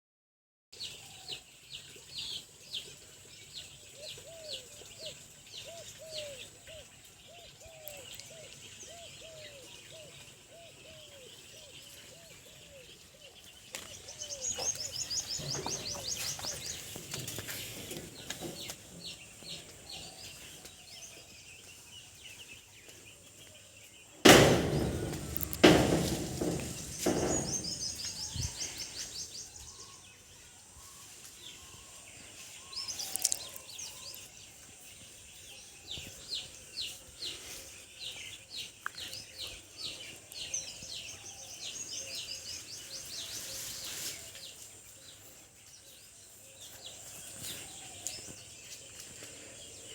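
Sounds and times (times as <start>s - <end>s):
birds chirping: 0.8s - 49.9s.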